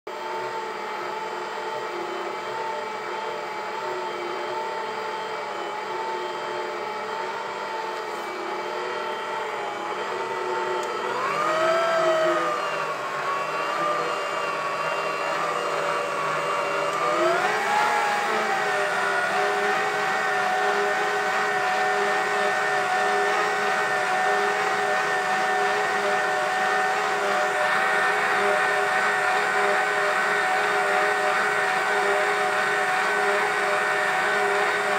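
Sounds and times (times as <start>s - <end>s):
stand mixer motor whine: 0.1s - 34.9s.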